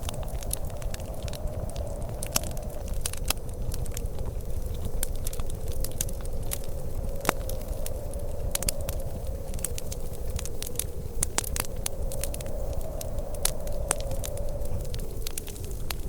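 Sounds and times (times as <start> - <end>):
faint steady hum: 0.0 - 16.0
low rumble: 0.0 - 16.0
wood fire crackling: 0.0 - 16.0.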